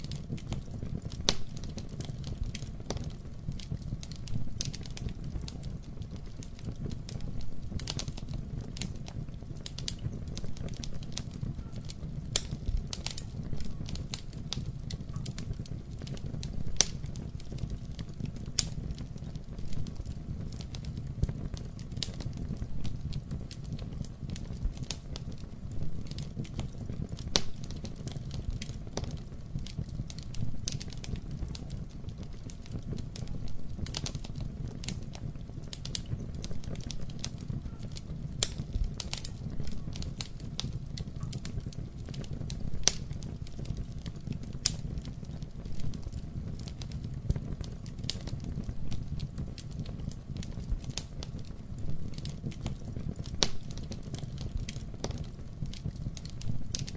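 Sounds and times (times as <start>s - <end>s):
fire low rumble: 0.0s - 56.9s
wood crackling and popping: 0.0s - 56.9s.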